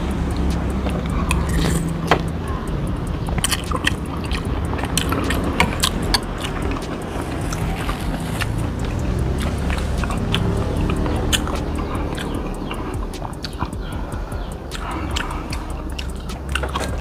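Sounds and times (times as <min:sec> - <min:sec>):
chewing: 0:00.0 - 0:17.0
steady low hum: 0:00.0 - 0:17.0.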